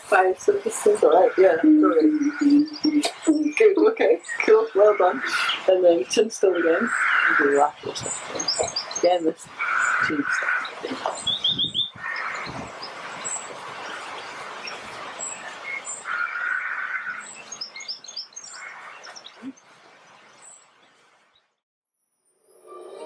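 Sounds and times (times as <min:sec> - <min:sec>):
outdoor background hiss: 0:00.0 - 0:21.4
small birds chirping: 0:00.0 - 0:21.6.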